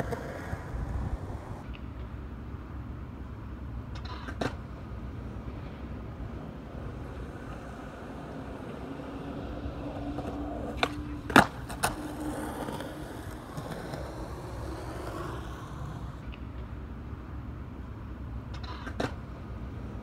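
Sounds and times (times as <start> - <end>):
skateboard clacks: 0.0 - 2.1, 3.9 - 16.8, 18.4 - 20.0
skateboard wheels rolling on concrete: 0.0 - 20.0.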